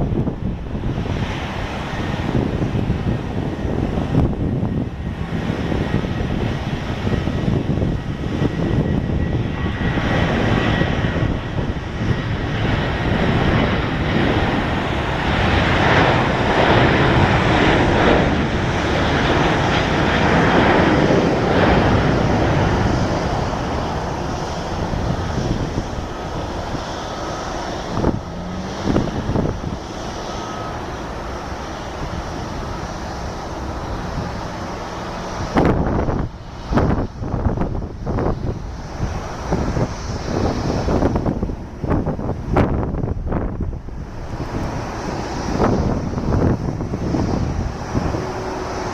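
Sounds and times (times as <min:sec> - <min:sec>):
faint jet engine whine: 0:00.0 - 0:48.9
jet engine roar at takeoff: 0:00.0 - 0:48.9.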